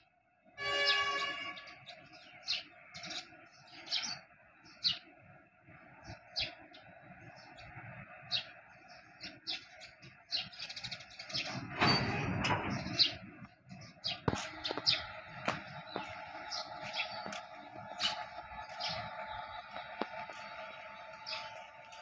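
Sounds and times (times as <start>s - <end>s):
small birds chirping: 1.6s - 12.0s, 12.6s - 22.0s.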